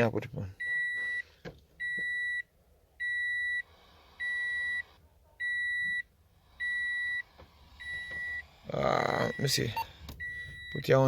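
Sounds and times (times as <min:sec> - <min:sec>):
car warning beeps: 0:00.6 - 0:11.0.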